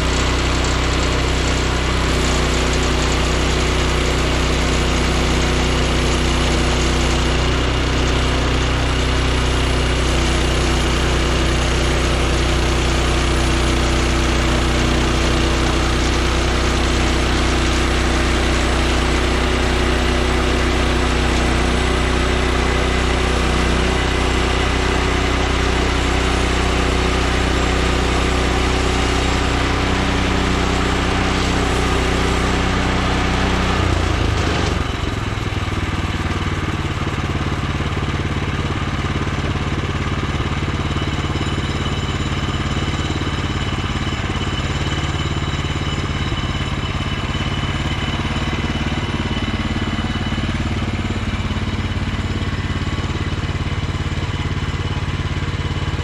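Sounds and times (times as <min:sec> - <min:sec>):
bandsaw mill gas engine running: 0:00.0 - 0:56.0.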